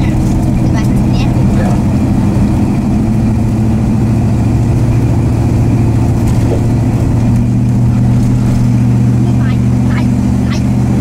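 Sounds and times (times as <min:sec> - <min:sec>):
car engine drone: 0:00.0 - 0:11.0
road rumble: 0:00.0 - 0:11.0.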